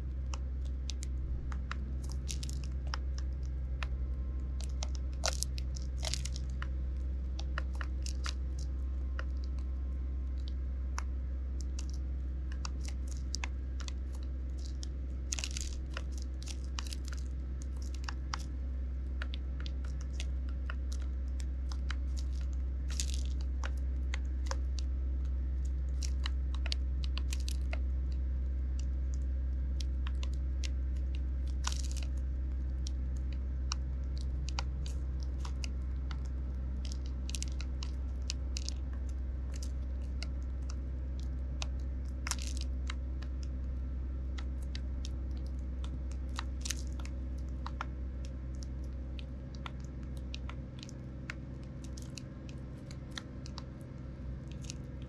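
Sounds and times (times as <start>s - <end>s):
steady low hum: 0.0s - 55.0s
beaks tapping and cracking seed: 0.2s - 4.0s, 4.6s - 55.0s.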